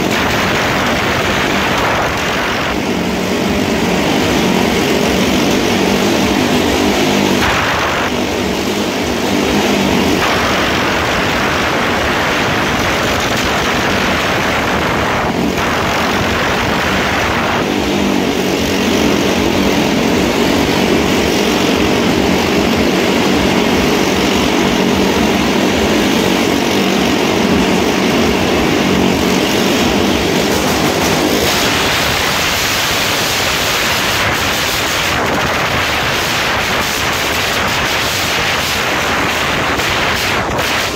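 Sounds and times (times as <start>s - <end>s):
motorcycle engines droning: 0.0s - 40.9s.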